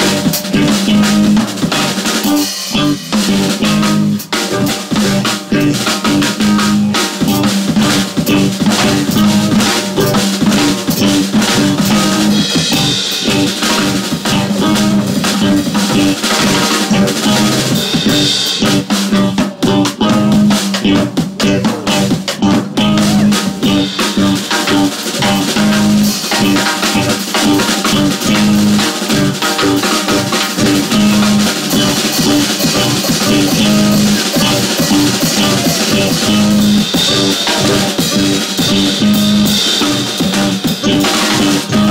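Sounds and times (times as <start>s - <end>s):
bass: 0.0s - 41.9s
drum kit: 0.0s - 41.9s
electric guitar: 0.0s - 41.9s
jazz band playing: 0.0s - 41.9s
saxophone: 0.0s - 41.9s.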